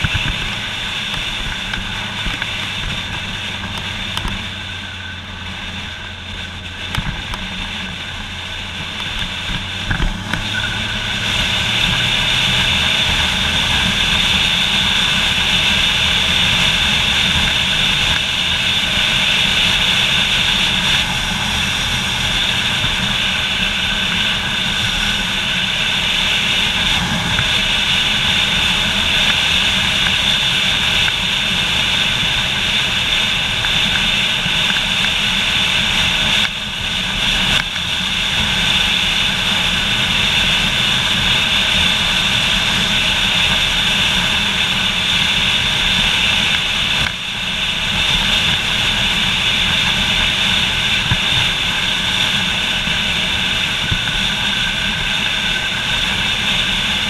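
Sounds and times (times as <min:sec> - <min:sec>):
motorcycle engine running: 0:00.0 - 0:57.0
wind rushing over camera: 0:00.0 - 0:57.0.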